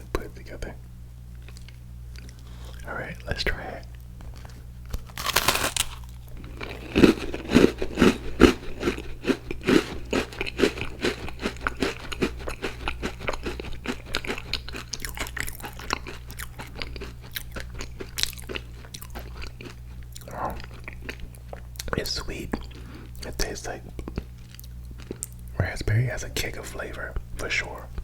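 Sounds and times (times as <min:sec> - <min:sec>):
crunchy chewing: 0:01.3 - 0:25.5.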